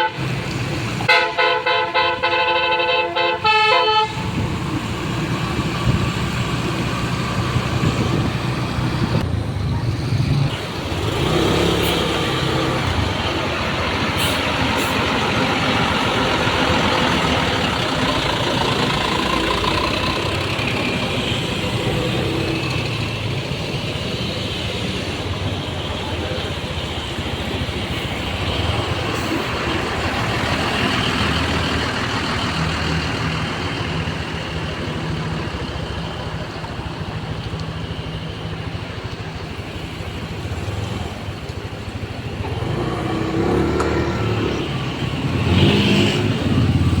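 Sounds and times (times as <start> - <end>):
bus engine running: 0.0 - 47.0
road traffic noise: 0.0 - 47.0.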